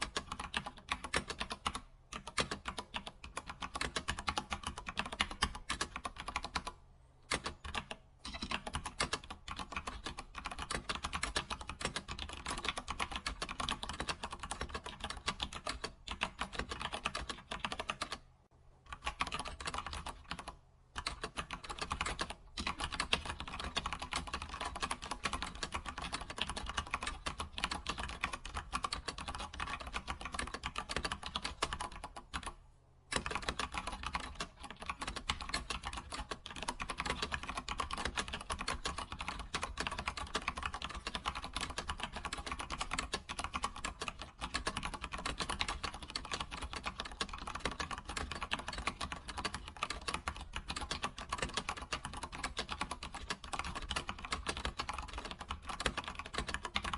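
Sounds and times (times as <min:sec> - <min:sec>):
computer keyboard typing: 0:00.0 - 0:18.2, 0:18.9 - 0:56.9.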